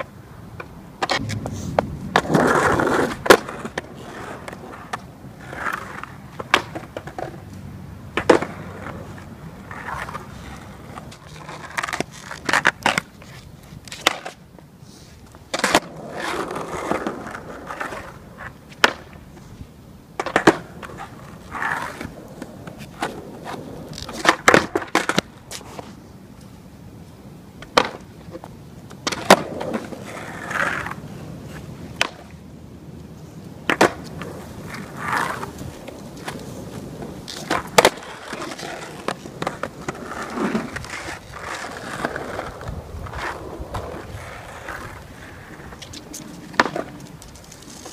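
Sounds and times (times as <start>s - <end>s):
skateboard pops and clacks: 0.0s - 14.5s, 15.5s - 19.3s, 20.2s - 25.9s, 27.6s - 31.0s, 31.6s - 32.4s, 33.0s - 47.9s
skateboard wheels rolling: 0.0s - 47.9s.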